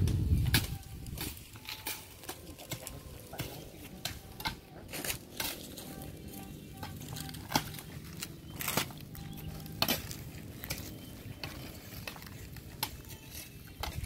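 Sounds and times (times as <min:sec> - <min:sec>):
dry leaves rustling: 0:00.0 - 0:14.0
dry wood cracking: 0:00.4 - 0:14.0.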